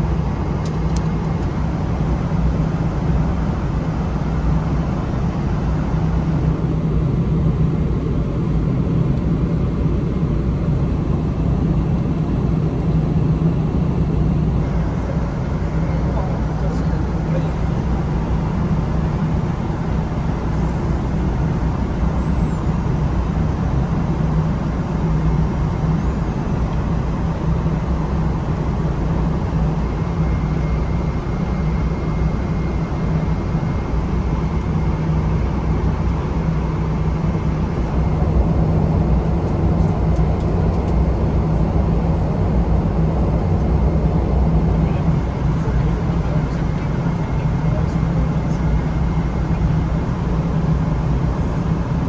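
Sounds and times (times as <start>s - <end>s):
airliner cabin drone: 0.0s - 52.0s.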